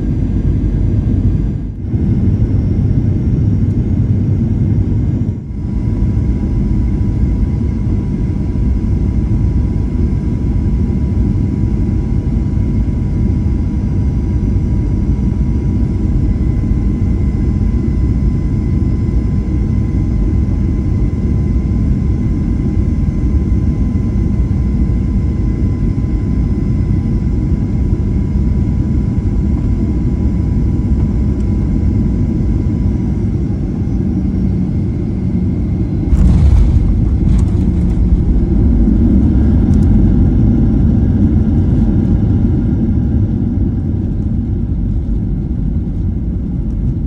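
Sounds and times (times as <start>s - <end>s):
faint engine whine: 0.0s - 47.0s
jet engine rumble: 0.0s - 47.0s.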